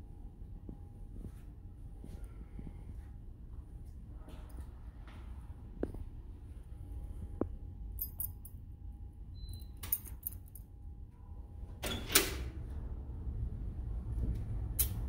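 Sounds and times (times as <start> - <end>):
low steady rumble: 0.0 - 11.8, 12.4 - 15.0.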